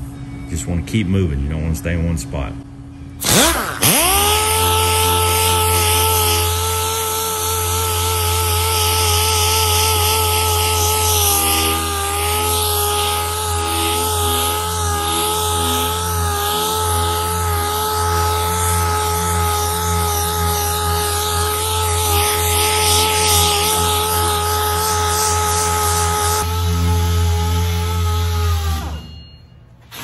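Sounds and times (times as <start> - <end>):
orbital sander whine: 3.2 - 29.6.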